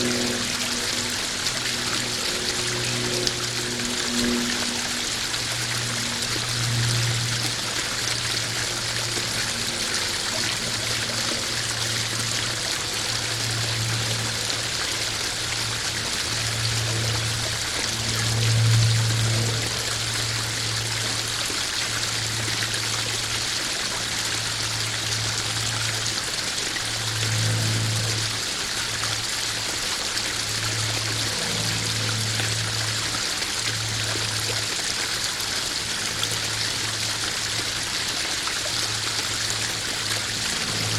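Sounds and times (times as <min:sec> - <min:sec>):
low hum: 0:00.0 - 0:40.9
waterfall splashing into pond: 0:00.0 - 0:40.9.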